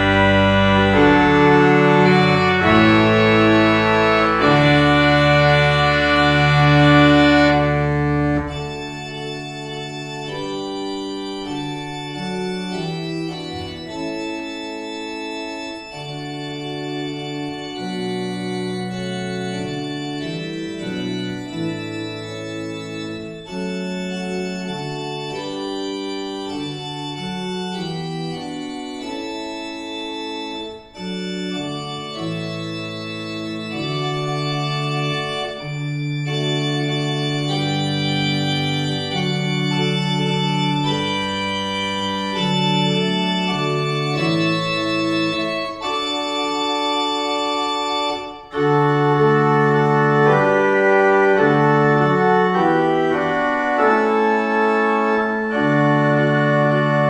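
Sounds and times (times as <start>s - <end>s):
church organ chords: 0.0s - 57.0s
deep organ pedal bass: 0.0s - 57.0s.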